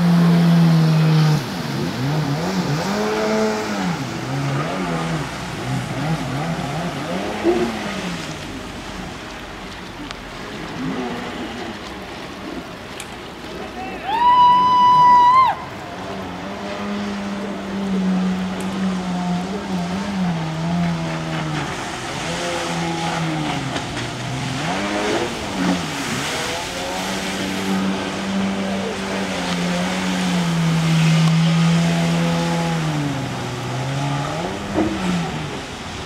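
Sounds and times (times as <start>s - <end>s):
jet ski engine revving: 0.0s - 36.0s
water spray rushing: 0.0s - 36.0s.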